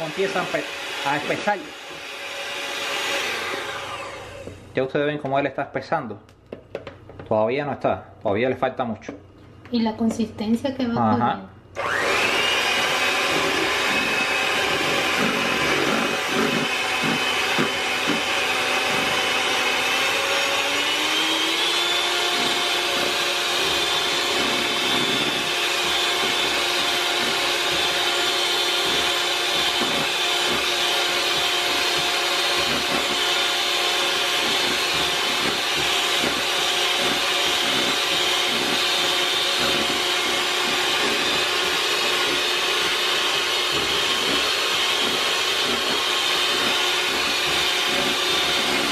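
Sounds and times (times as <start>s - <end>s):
electric hand mixer running: 0.0s - 4.7s, 11.8s - 48.9s.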